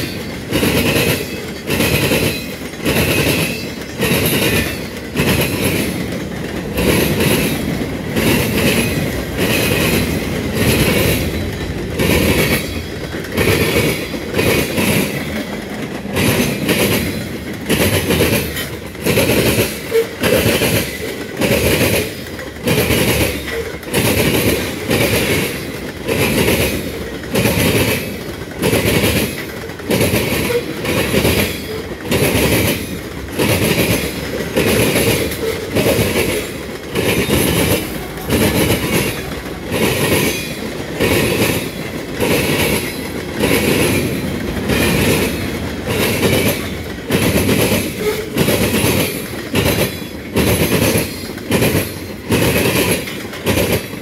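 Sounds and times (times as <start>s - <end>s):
train wheels clacking over track: 0.0s - 54.0s.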